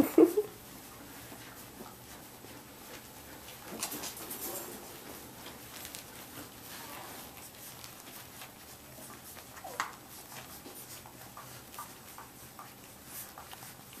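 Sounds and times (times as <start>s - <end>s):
puppies suckling: 0.3s - 14.0s.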